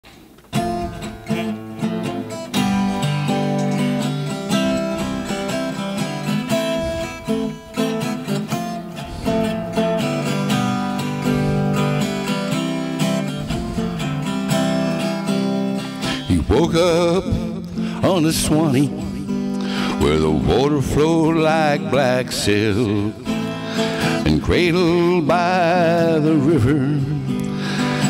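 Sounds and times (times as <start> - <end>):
acoustic guitar strumming chords: 0.1 - 28.0.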